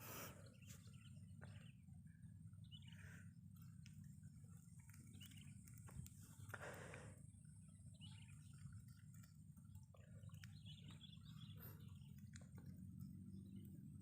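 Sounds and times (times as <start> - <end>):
faint bird chirps: 0.0 - 14.0
low outdoor rumble: 0.0 - 14.0.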